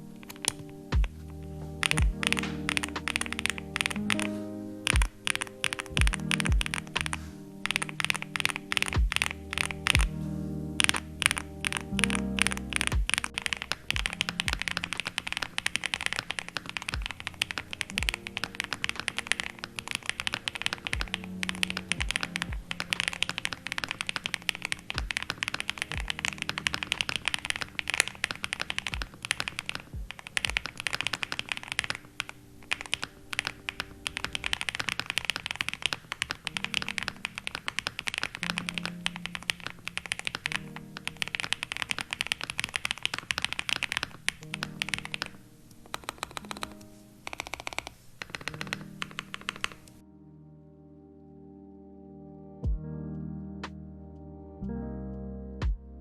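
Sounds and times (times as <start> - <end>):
typing on mechanical keyboard: 0.0 - 10.2, 10.8 - 50.0.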